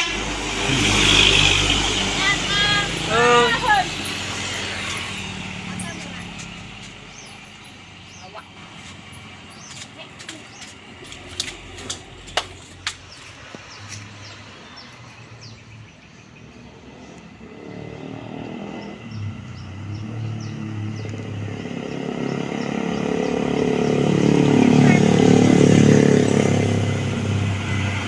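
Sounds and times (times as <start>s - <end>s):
vehicle engine approaching: 0.0s - 28.0s
birds chirping: 0.1s - 28.0s.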